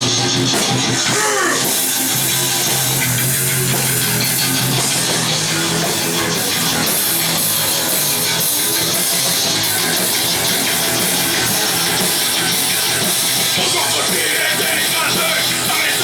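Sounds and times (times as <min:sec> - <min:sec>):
rock music with guitar and drums: 0:00.0 - 0:16.0.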